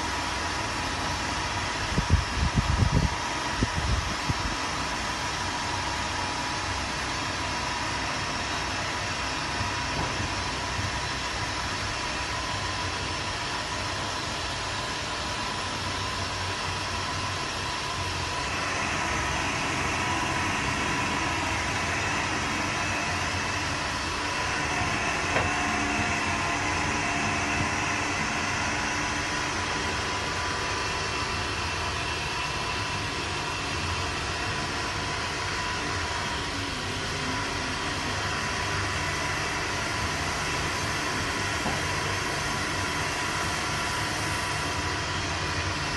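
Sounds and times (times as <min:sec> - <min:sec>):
crane drive whine: 0:00.0 - 0:45.9
steady mechanical hum: 0:00.0 - 0:45.9.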